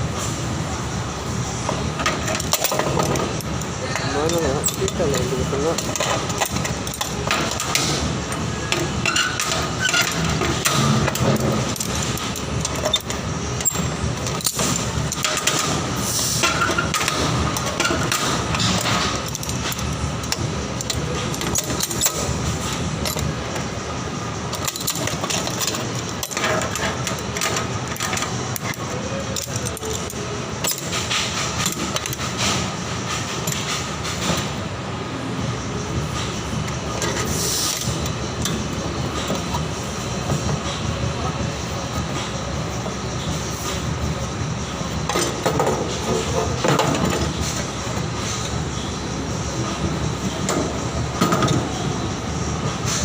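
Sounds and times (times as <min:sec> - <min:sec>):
crackling metalworking din: 0:00.0 - 0:53.0.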